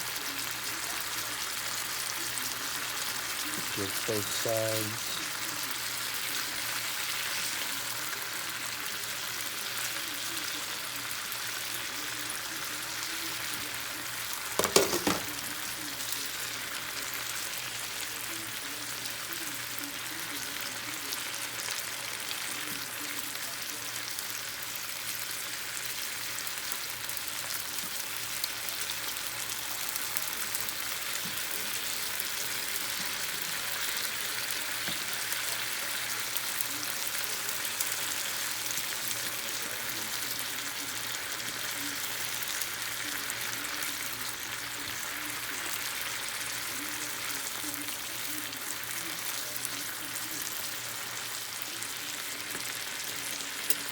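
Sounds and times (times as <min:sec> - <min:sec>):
chicken sizzling in a pan: 0:00.0 - 0:53.9.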